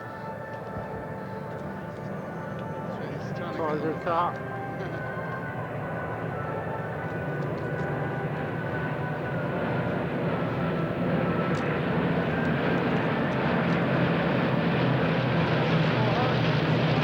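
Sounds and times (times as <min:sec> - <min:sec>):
propeller aircraft engine drone: 0:00.0 - 0:17.0.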